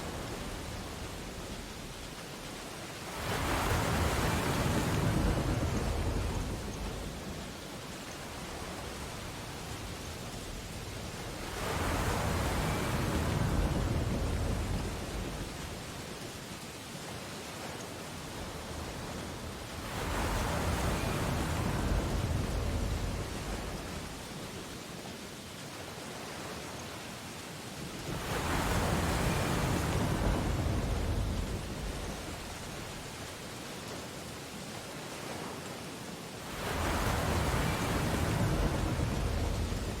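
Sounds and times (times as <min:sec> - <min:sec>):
ocean waves breaking on beach: 0:00.0 - 0:40.0.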